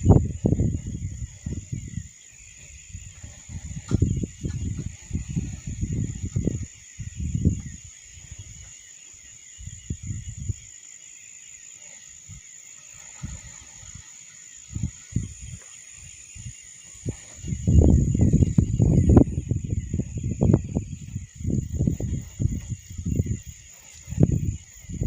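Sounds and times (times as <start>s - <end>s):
strong wind gusts buffeting: 0.0s - 8.8s, 9.6s - 10.7s, 12.3s - 25.0s
insects chirring: 0.0s - 25.0s.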